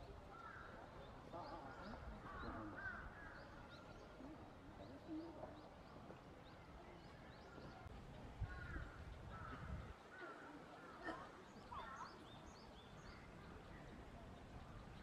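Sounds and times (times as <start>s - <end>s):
birds calling: 0.3s - 15.0s.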